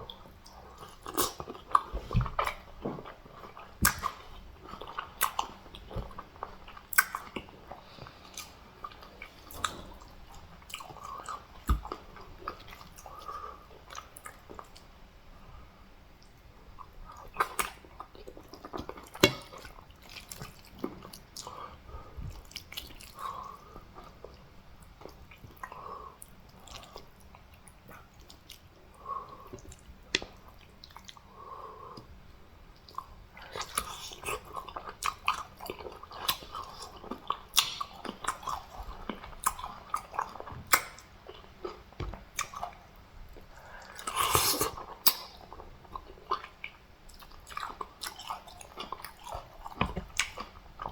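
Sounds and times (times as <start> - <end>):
close-up chewing and mouth smacks: 0.0 - 15.0, 16.2 - 31.3, 31.9 - 50.9.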